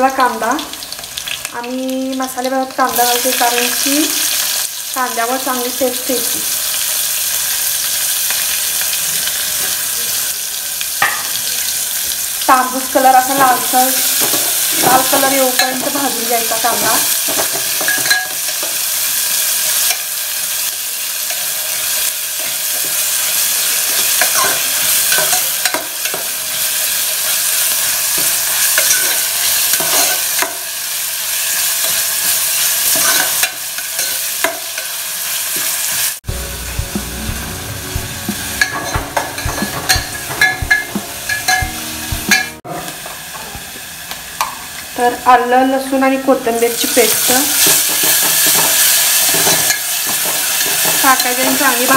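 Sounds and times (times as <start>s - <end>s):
onion sizzling in oil: 0.0s - 51.9s.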